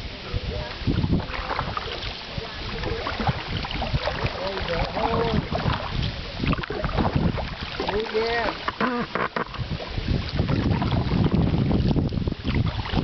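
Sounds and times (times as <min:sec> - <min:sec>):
paddle splashing in water: 0:00.0 - 0:13.0
wind on microphone: 0:00.0 - 0:13.0.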